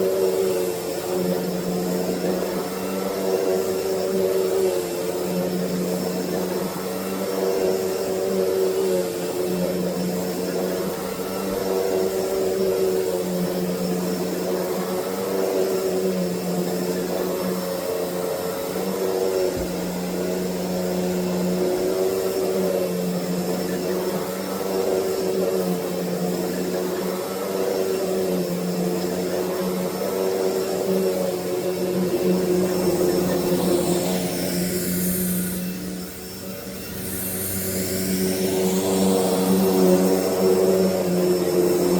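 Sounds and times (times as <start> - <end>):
vacuum cleaner motor hum: 0.0 - 41.9.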